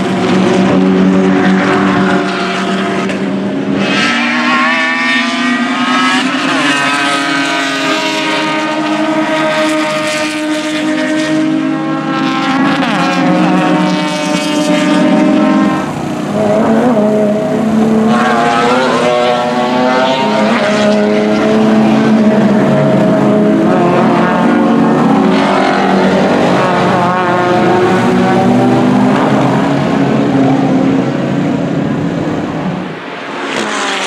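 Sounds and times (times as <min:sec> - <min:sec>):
race car engines passing: 0:00.0 - 0:34.0.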